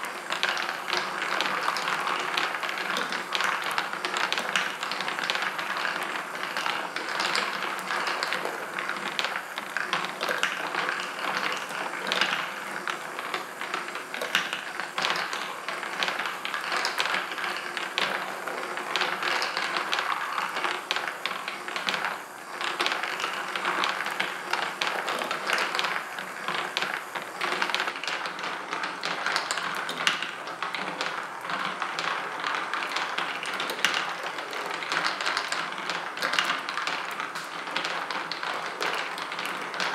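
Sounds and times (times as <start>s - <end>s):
marbles clicking and tapping: 0.0s - 39.9s
mechanical hum: 0.0s - 39.9s.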